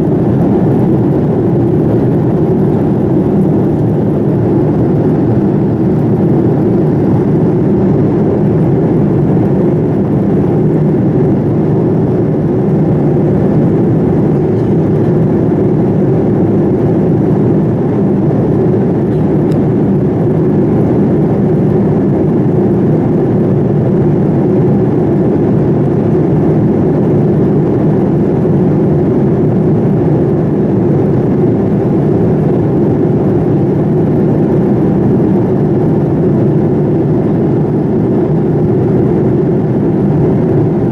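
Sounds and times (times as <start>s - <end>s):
airliner cabin drone: 0.0s - 40.9s.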